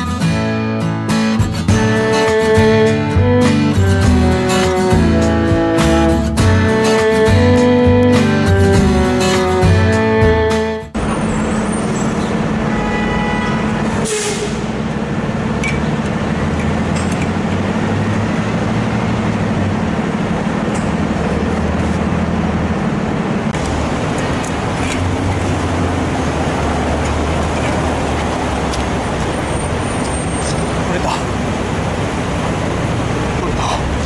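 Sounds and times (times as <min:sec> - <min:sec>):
heavy vehicle engine droning: 0:00.0 - 0:34.0
street traffic: 0:00.0 - 0:34.0.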